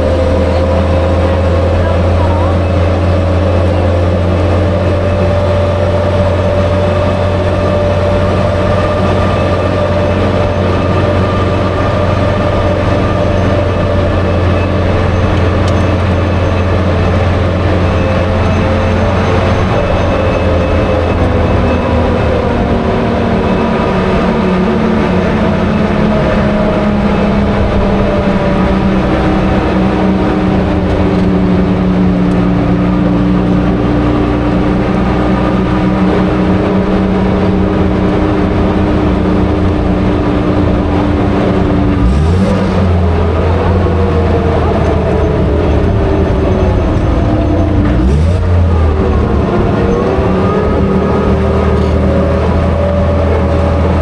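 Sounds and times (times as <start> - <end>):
armoured car engine running: 0.0 - 54.0.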